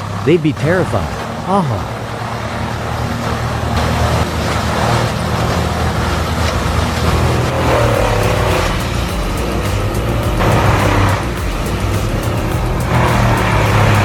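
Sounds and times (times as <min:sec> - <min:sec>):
engine drone: 0:00.0 - 0:14.0
wood chipper grinding wood: 0:00.9 - 0:14.0.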